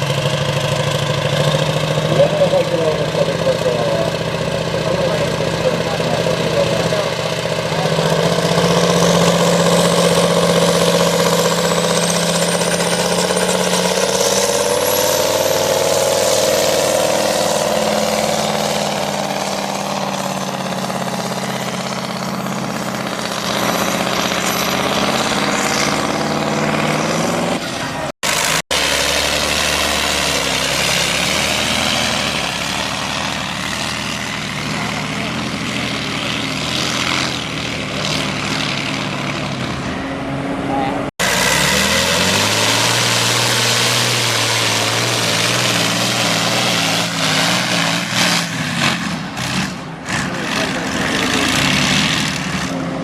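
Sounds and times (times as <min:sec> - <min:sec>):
tractor engine running hard: 0:00.0 - 0:53.0.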